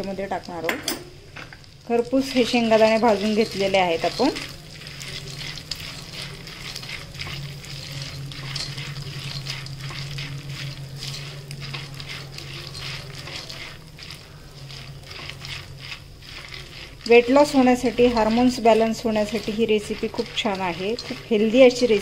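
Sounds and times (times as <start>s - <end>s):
food sizzling in butter: 0.0s - 22.0s
steady low hum: 1.2s - 22.0s
spatula scraping pan: 2.0s - 22.0s.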